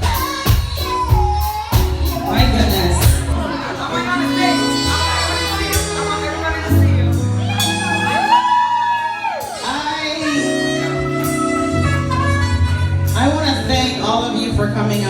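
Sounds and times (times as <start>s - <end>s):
person singing: 0.0s - 8.5s, 9.5s - 14.2s
bass notes: 0.0s - 15.0s
live band playing: 0.0s - 15.0s.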